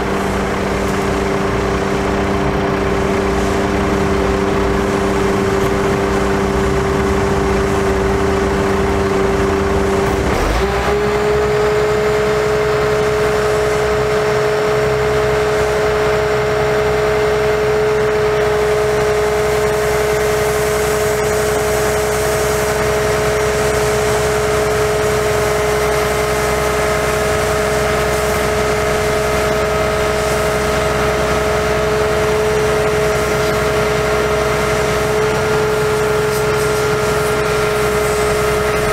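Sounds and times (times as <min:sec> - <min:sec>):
diesel engine running: 0:00.0 - 0:38.9
hydraulic whine: 0:00.0 - 0:38.9.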